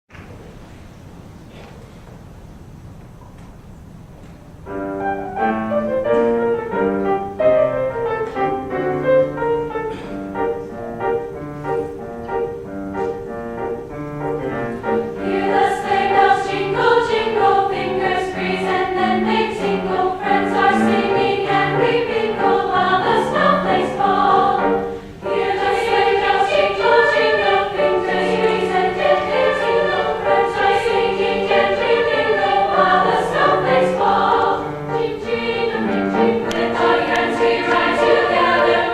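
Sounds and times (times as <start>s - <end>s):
choir singing with accompaniment: 4.7s - 38.9s.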